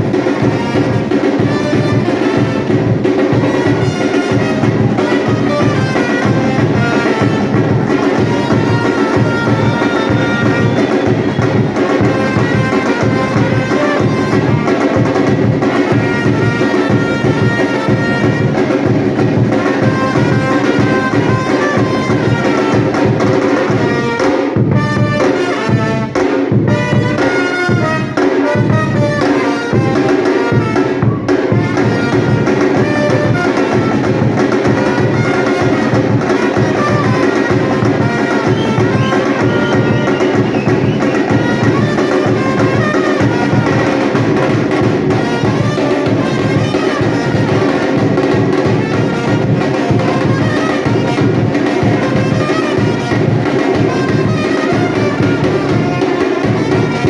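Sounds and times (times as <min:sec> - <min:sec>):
drum group playing: 0:00.0 - 0:57.0.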